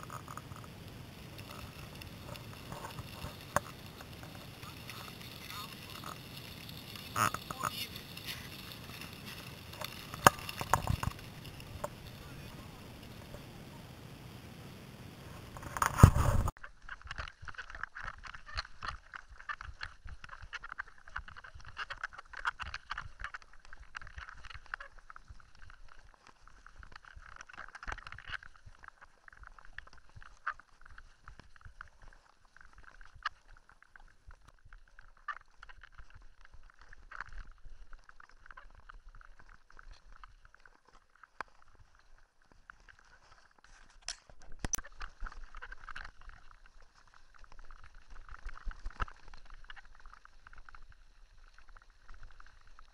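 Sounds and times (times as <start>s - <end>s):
stones clicking under tyres: 0.0s - 13.8s, 15.3s - 52.9s
bike rattling over gravel: 0.0s - 52.9s.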